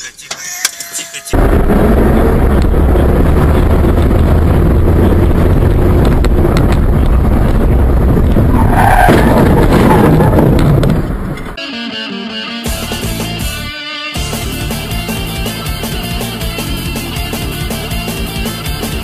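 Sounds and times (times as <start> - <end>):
car engine and road noise: 0.0 - 11.6, 14.2 - 19.0.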